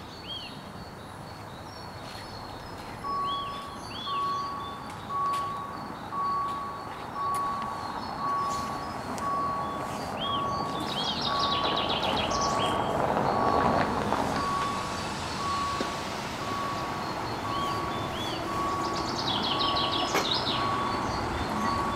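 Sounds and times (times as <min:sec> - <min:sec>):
level crossing warning bell beeping: 0:02.6 - 0:21.9.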